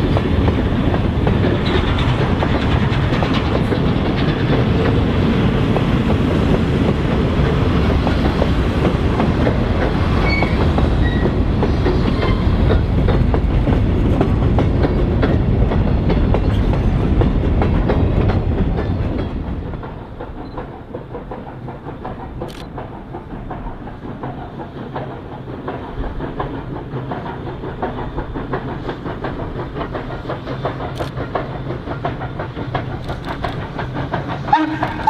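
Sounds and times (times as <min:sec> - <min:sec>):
train rumble: 0:00.0 - 0:35.0
train wheels clicking over rail joints: 0:00.0 - 0:35.0.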